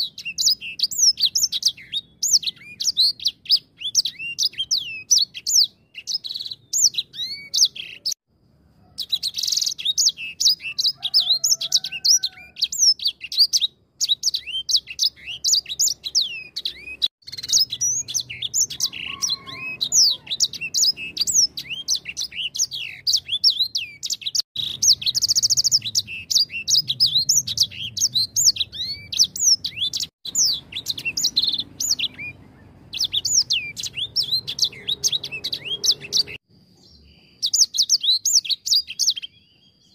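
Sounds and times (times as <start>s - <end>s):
finch twittering song: 0.0s - 8.3s, 8.9s - 39.9s.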